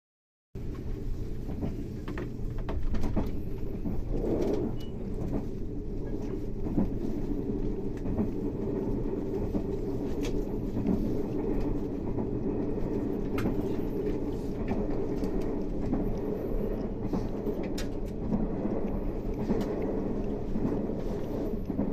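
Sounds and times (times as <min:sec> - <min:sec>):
train running rumble: 0:00.6 - 0:21.9.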